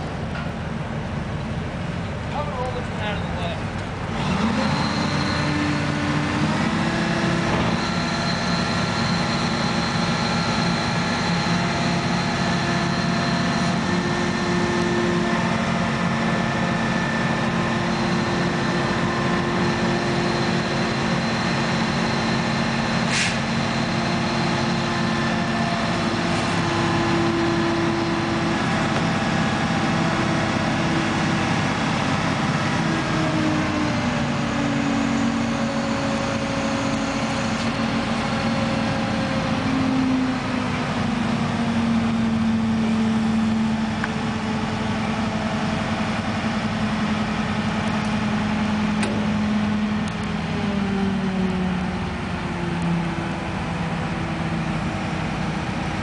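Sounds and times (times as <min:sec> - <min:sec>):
crane diesel engine running: 0:00.0 - 0:56.0.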